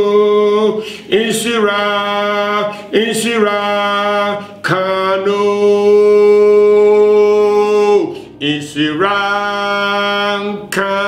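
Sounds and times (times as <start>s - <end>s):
man singing unaccompanied: 0.0s - 11.0s.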